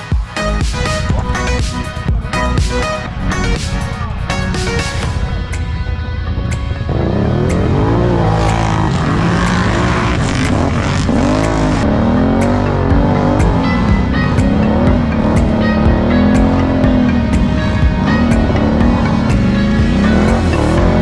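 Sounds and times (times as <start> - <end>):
music with steady beat: 0.0 - 21.0
quad engine revving: 0.6 - 21.0.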